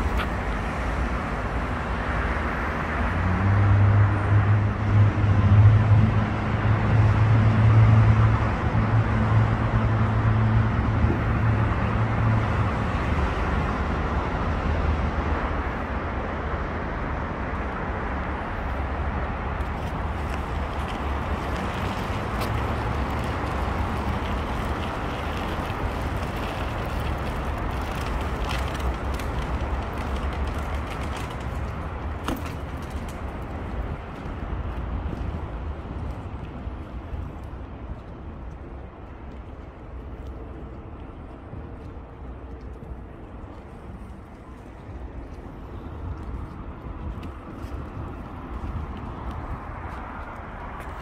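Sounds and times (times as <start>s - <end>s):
distant city traffic rumble: 0.0s - 51.0s.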